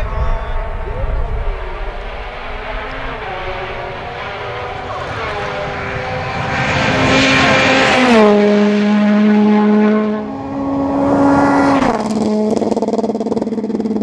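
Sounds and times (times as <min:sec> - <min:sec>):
rally car engine passing by: 0:00.0 - 0:14.0.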